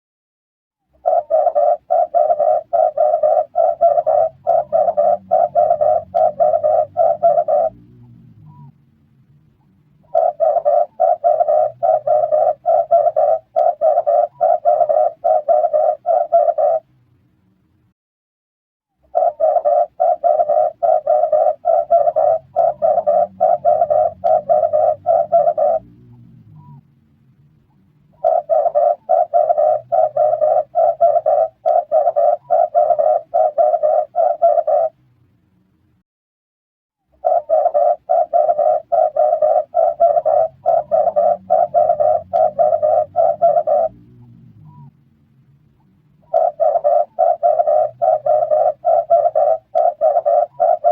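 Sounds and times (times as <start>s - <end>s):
dove cooing: 1.0s - 8.7s, 10.0s - 16.9s, 19.1s - 26.8s, 28.1s - 35.0s, 37.2s - 44.9s, 46.2s - 50.9s.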